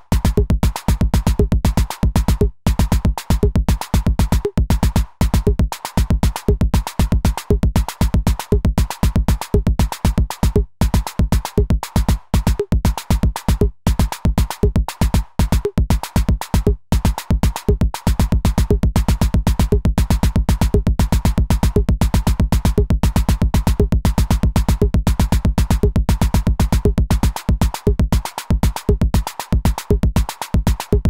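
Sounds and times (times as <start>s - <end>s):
electronic kick drum: 0.0s - 31.0s.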